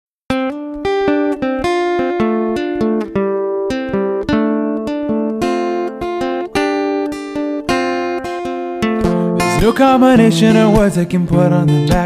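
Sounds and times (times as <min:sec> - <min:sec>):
acoustic guitar chords: 0:00.3 - 0:12.0.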